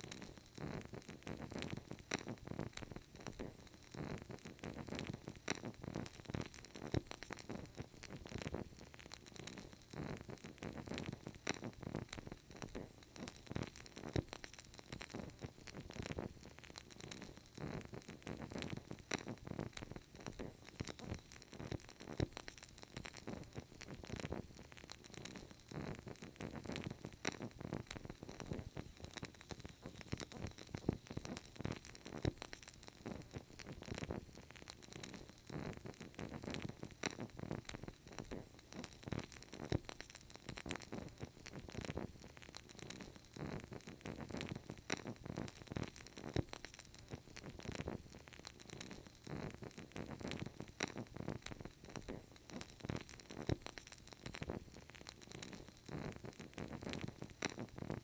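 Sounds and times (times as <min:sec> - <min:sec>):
candle crackling: 0:00.0 - 0:58.0.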